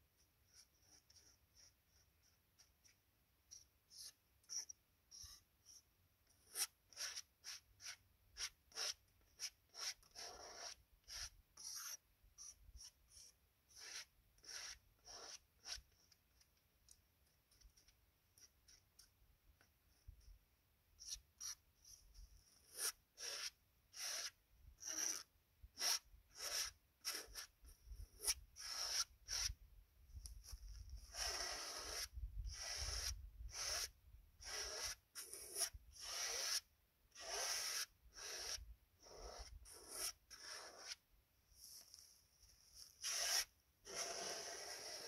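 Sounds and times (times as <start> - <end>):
paint brush scraping canvas: 0.2 - 19.2, 21.0 - 45.0.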